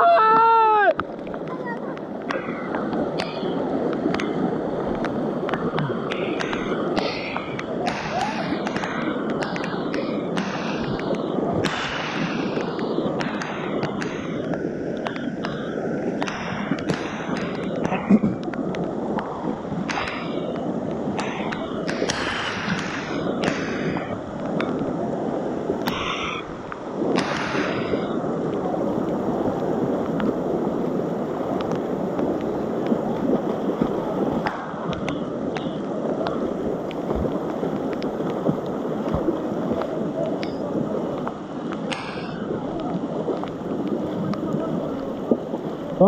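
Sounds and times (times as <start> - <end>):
river rushing: 0.0 - 46.0.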